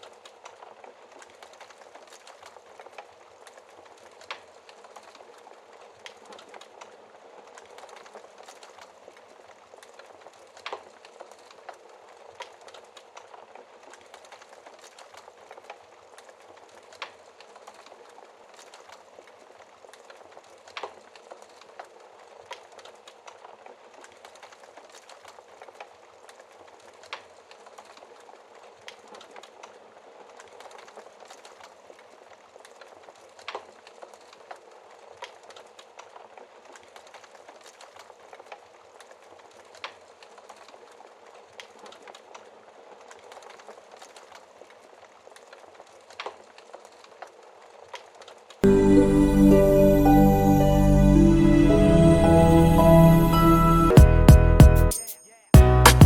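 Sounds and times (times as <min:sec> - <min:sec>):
sharp pops of fire: 0:00.0 - 0:48.5
wood fire crackling: 0:00.0 - 0:56.0.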